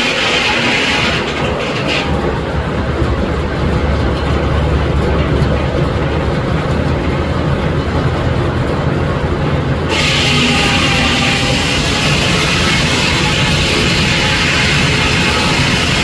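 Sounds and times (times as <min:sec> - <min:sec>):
sawmill machinery rumbling: 0:00.0 - 0:16.0.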